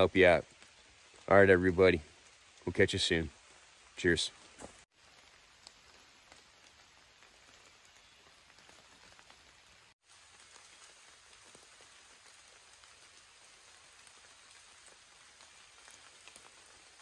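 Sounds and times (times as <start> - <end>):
light rain on leaves: 0.0 - 17.0.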